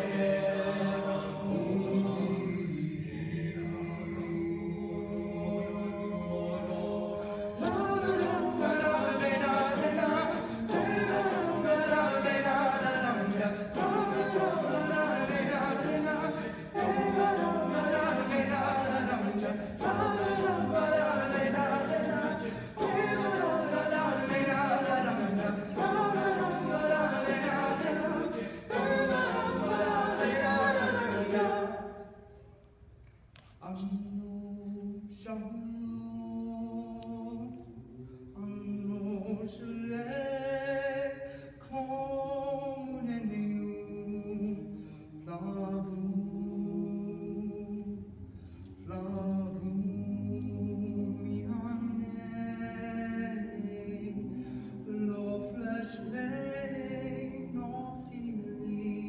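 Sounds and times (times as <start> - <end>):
choir singing in harmony: 0.0 - 32.5, 33.7 - 59.0.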